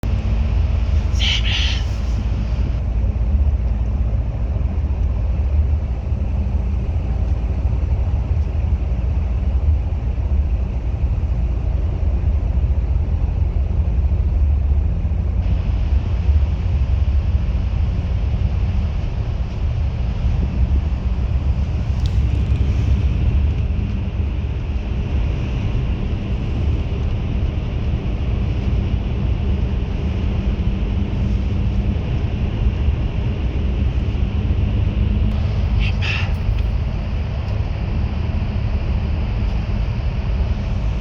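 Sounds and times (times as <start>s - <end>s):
bus engine and road noise: 0.0s - 41.0s.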